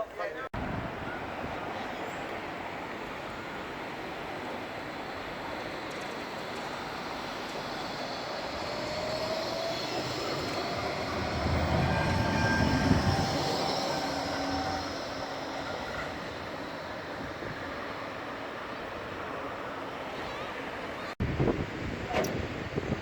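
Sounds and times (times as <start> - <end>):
tram running on rails: 0.6 - 23.0.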